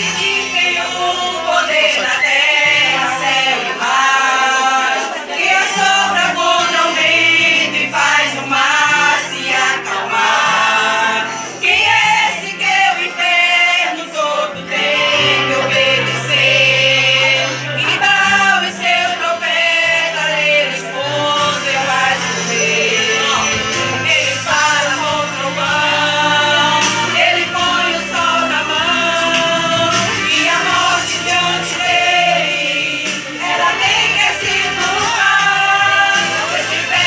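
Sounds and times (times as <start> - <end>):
women singing a hymn: 0.0 - 37.0.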